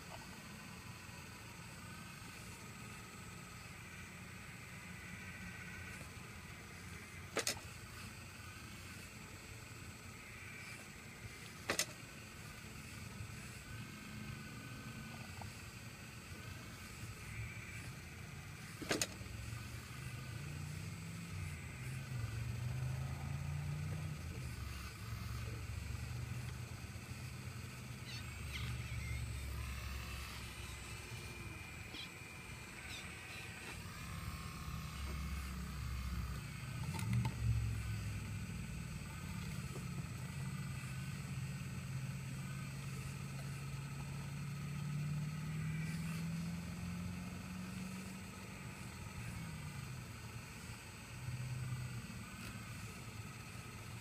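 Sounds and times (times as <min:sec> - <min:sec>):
excavator engine running: 0:00.0 - 0:45.0.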